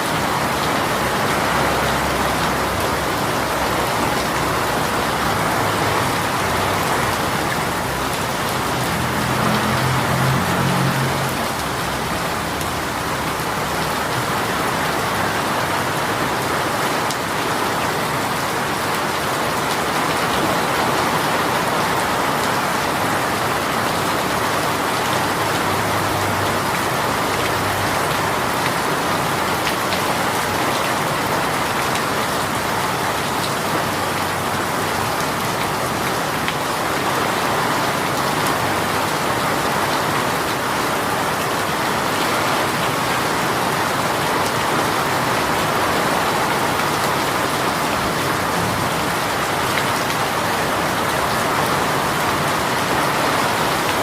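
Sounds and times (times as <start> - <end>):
rain on surfaces: 0.0 - 54.0.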